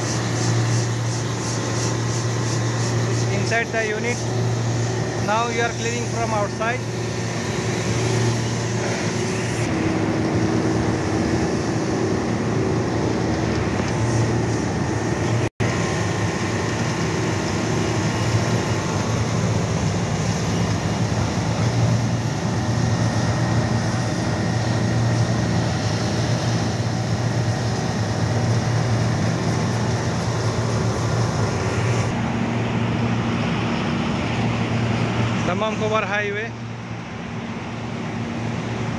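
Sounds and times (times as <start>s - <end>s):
pressure washer motor hum: 0.0s - 38.9s
road traffic: 0.0s - 38.9s.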